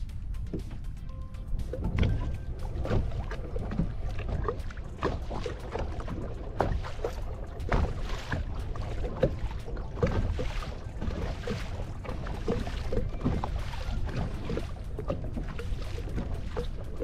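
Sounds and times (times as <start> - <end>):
water splashing against kayak: 0.0 - 17.0
wind on microphone: 0.0 - 17.0.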